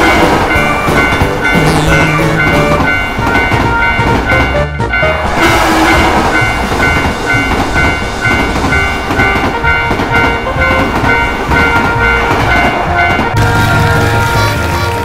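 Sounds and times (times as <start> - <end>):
crossing warning bell ringing: 0.0 - 15.0
passing train rumble: 0.0 - 15.0.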